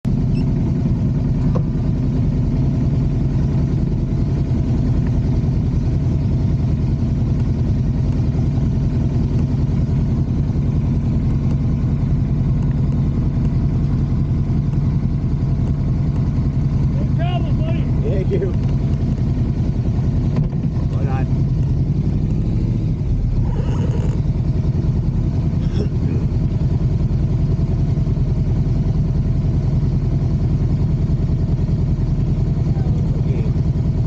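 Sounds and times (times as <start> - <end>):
motorcycle engine running steadily: 0.0 - 34.0.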